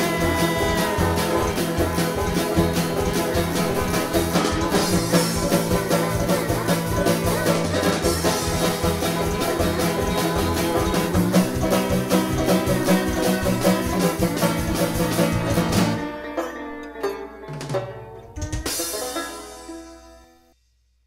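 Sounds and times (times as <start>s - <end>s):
background music with plucked strings: 0.0s - 20.6s.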